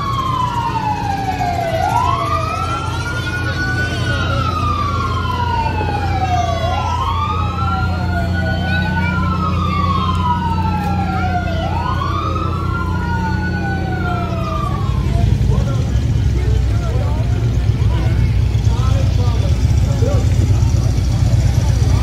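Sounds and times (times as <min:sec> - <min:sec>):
low engine rumble: 0:00.0 - 0:22.0
sirens wailing: 0:00.0 - 0:22.0.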